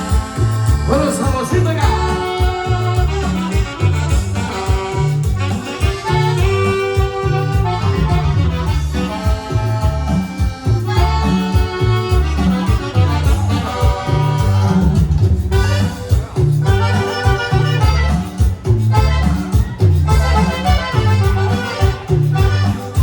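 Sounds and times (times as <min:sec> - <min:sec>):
accordion-led latin band music: 0:00.0 - 0:23.0
repeating bass line: 0:00.0 - 0:23.0.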